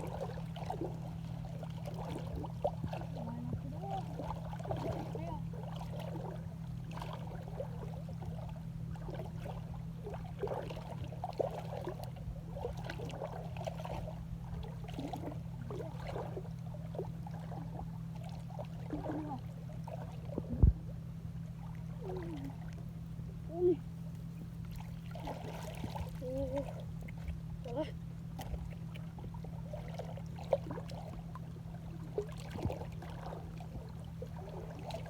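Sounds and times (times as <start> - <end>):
low motor hum: 0.0 - 35.0
water trickling and sloshing: 0.0 - 35.0.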